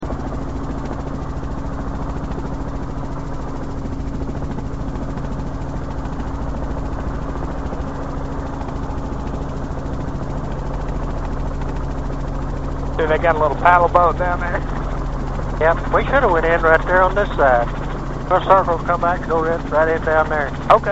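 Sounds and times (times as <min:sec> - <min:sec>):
helicopter engine and rotor drone: 0:00.0 - 0:20.9.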